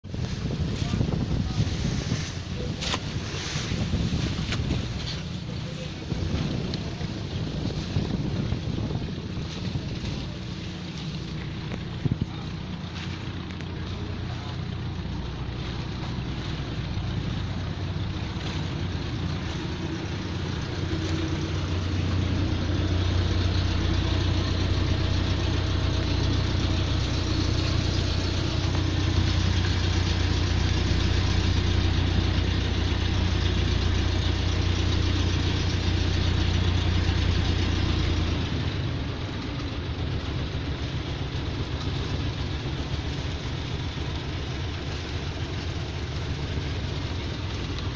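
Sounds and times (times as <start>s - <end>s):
boat engine humming: 0.0s - 47.9s.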